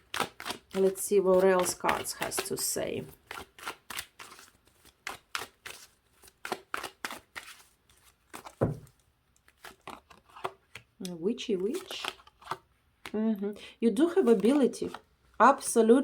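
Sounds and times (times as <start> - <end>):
cards being shuffled: 0.0 - 13.2, 14.1 - 15.1.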